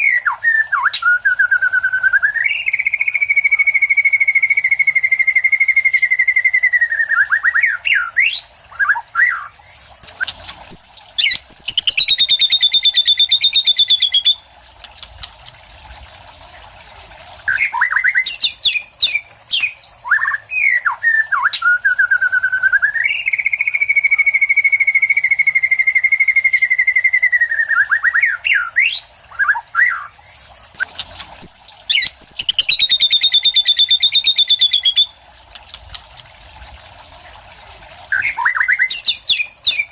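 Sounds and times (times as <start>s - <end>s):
songbird singing trills and whistles: 0.0s - 14.5s, 17.5s - 35.2s, 38.1s - 39.9s.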